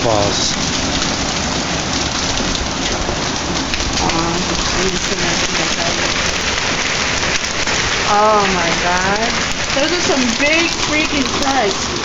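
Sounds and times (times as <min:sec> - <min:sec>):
hail and heavy rain: 0:00.0 - 0:12.0.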